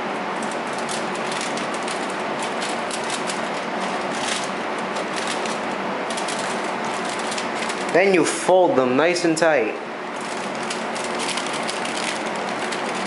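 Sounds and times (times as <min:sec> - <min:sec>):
aluminium foil crinkling: 0:00.4 - 0:08.1, 0:10.2 - 0:13.0.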